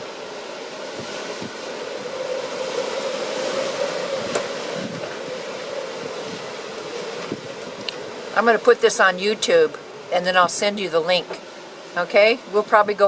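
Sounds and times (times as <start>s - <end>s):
strong wind gusting: 0.0s - 13.0s.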